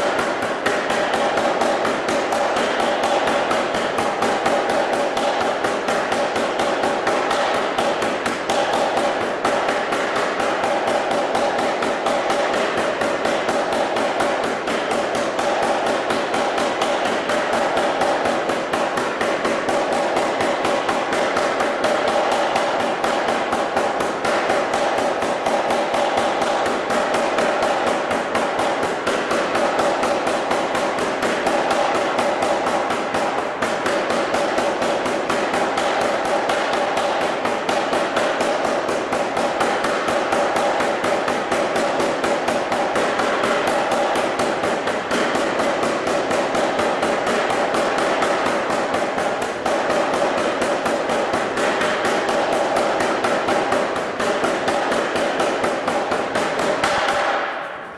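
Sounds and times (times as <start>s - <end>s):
power hammer striking hot steel: 0.0s - 57.8s.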